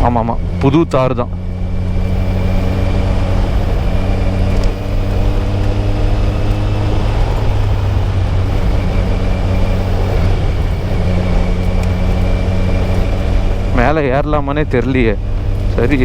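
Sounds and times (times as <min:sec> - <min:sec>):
motorcycle engine running: 0:00.0 - 0:16.0
wind noise: 0:00.0 - 0:16.0.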